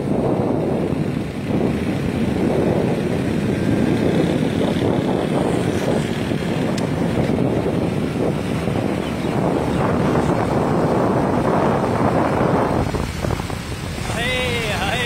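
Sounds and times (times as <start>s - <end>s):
small motorcycle engine running: 0.0s - 15.0s
wind rushing over microphone: 0.0s - 15.0s.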